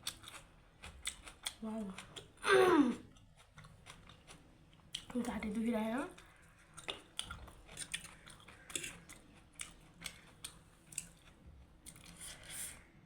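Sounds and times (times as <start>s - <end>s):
close chewing of food: 0.0s - 12.9s.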